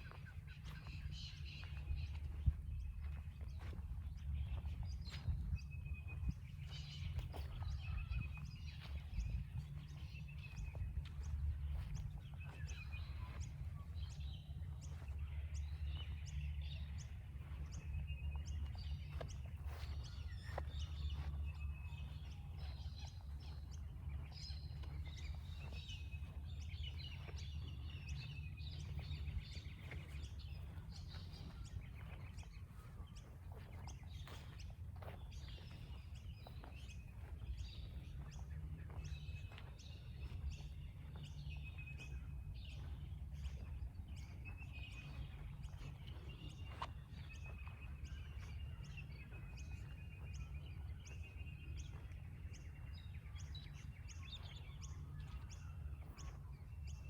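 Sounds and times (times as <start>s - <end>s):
many birds chirping: 0.0s - 57.0s
steady low rumble: 0.0s - 57.0s.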